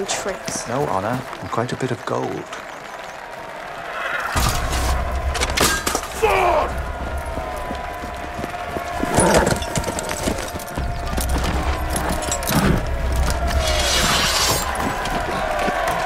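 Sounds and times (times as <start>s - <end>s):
crowd shouting and screaming: 0.0s - 16.0s.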